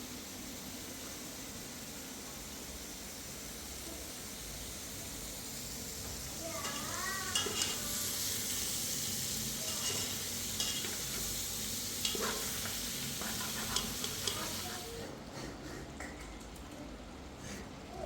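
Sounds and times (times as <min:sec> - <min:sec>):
sizzling hiss: 0:00.0 - 0:15.0.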